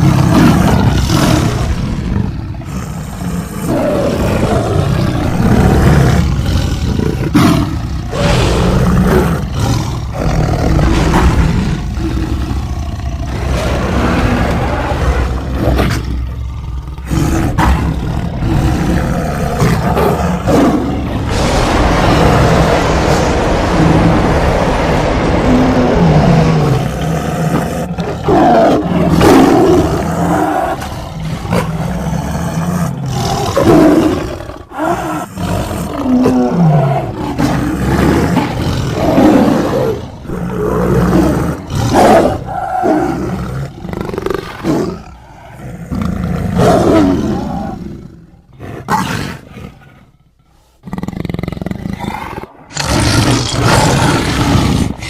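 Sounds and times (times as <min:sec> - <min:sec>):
monster roaring and growling: 0:00.0 - 0:50.0, 0:50.8 - 0:55.0.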